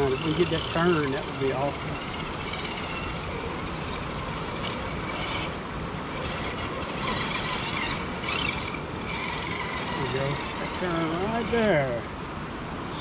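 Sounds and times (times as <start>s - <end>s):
electric motor and gears whining: 0.0s - 12.1s
steady rushing background noise: 0.0s - 13.0s.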